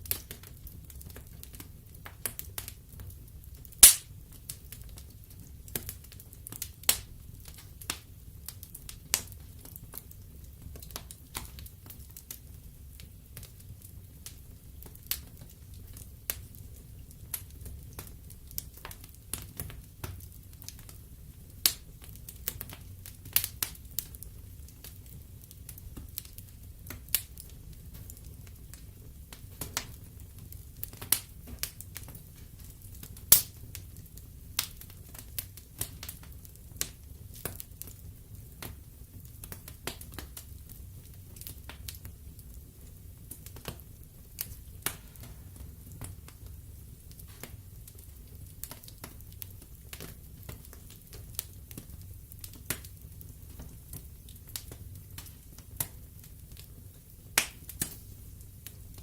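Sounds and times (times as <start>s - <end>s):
logs crackling and popping: 0.0s - 59.0s
low rumble of flames: 0.0s - 59.0s.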